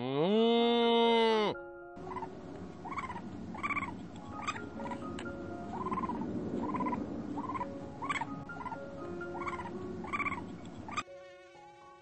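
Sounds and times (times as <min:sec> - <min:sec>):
repeated short animal calls: 0:00.4 - 0:05.0, 0:05.7 - 0:11.0
soft background music: 0:00.5 - 0:12.0.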